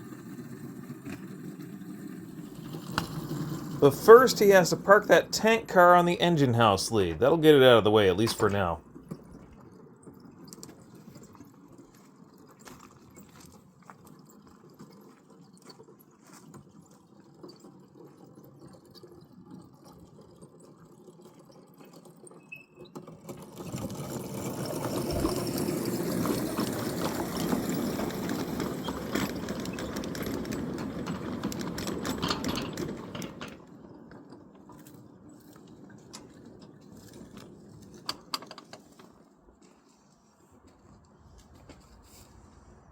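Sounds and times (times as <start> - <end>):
small locomotive rolling on track: 0.0 - 40.0.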